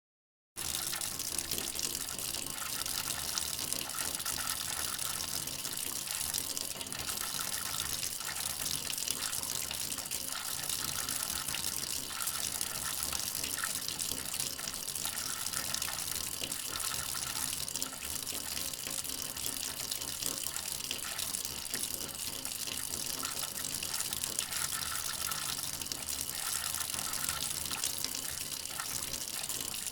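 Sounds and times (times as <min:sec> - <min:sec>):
water running from a tap: 0:00.6 - 0:29.9.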